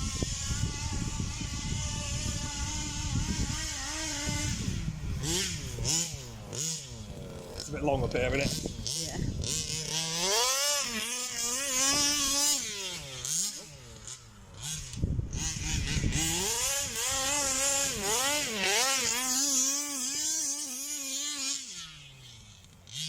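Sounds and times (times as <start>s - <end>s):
rc car engine revving: 0.0s - 23.0s.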